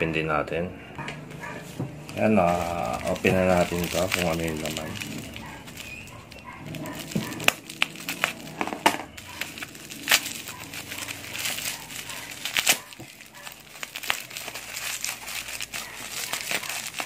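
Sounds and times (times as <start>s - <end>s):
plastic wrapper crinkling: 2.0s - 17.0s.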